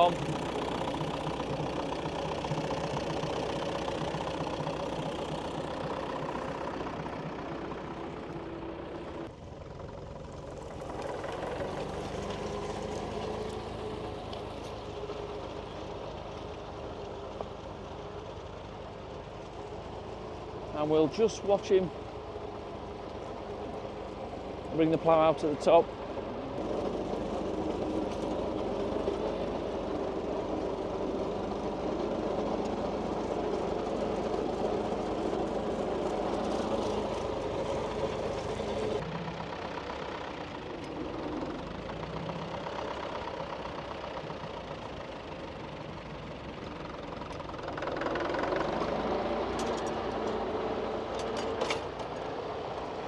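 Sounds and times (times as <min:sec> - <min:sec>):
tractor engine running and revving: 0:00.0 - 0:53.0.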